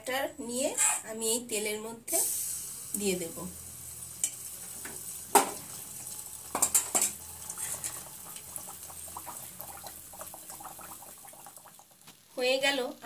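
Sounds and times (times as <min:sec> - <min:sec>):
batter frying in oil: 0:01.3 - 0:13.0.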